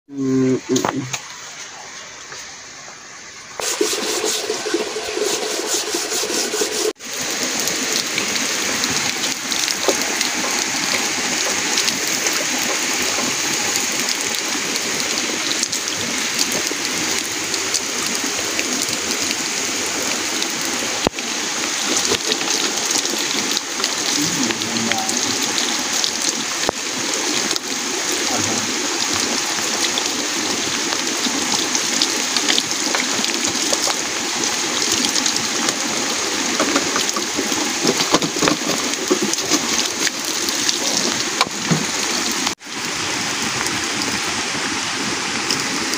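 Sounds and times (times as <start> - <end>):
water pouring from spout: 3.6 - 44.2.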